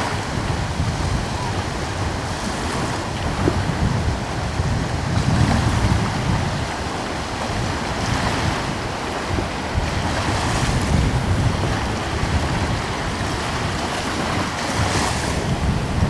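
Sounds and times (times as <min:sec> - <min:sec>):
ocean waves washing: 0:00.0 - 0:16.0.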